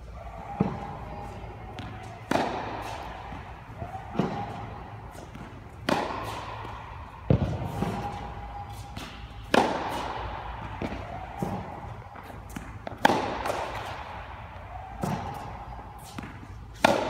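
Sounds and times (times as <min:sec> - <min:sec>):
racket striking tennis ball: 0:00.5 - 0:17.0
tennis ball bouncing: 0:00.5 - 0:17.0.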